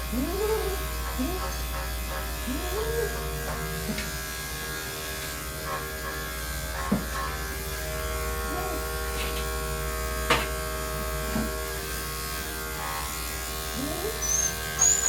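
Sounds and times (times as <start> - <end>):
electric clippers buzzing: 0.0 - 15.0.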